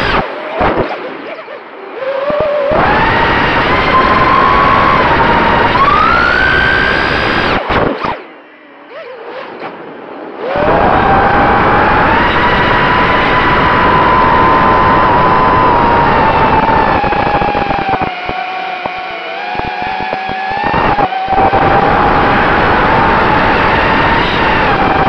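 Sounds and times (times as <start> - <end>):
drone motors buzzing whine: 2.2 - 25.0.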